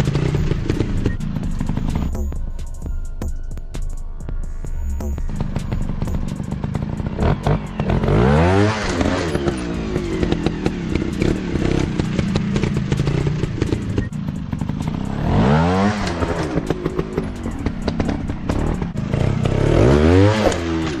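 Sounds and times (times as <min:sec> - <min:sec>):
motorcycle engine revving: 0:00.0 - 0:03.8, 0:04.6 - 0:21.0.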